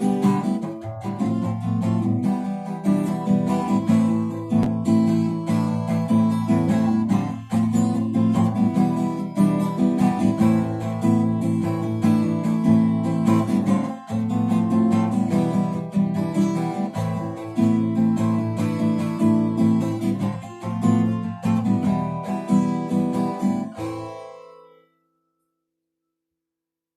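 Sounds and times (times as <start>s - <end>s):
acoustic guitar strumming chords: 0.0s - 25.4s.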